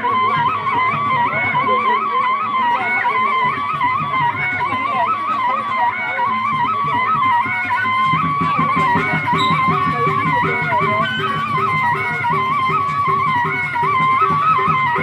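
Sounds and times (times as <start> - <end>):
reed pipe melody: 0.0 - 15.0
drum strokes: 2.7 - 15.0.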